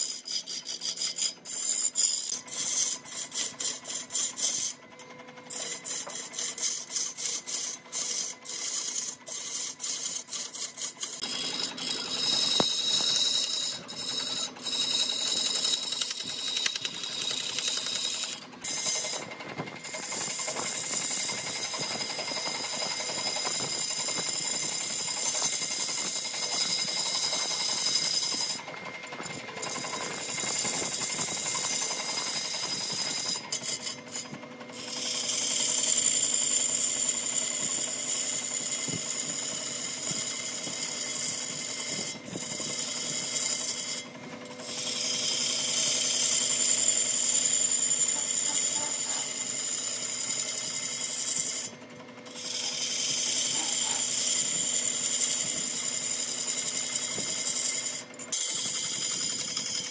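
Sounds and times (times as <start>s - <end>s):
continuous sanding noise: 0.0s - 4.8s, 5.5s - 59.9s
rasping strokes on wood: 0.0s - 4.8s, 5.5s - 51.8s, 52.4s - 59.9s.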